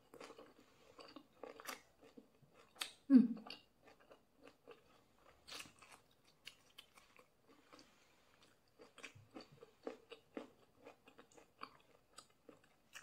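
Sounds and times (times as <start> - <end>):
faint chewing with wet clicks: 0.0 - 13.0.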